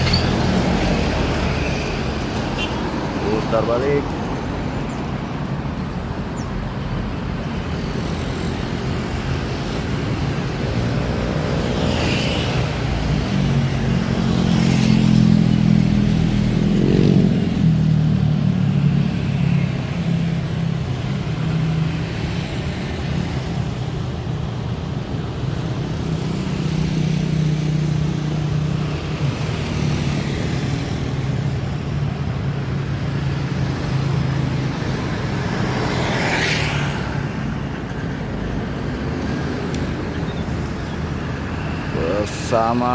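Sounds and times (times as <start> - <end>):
road and traffic noise: 0.0 - 42.9.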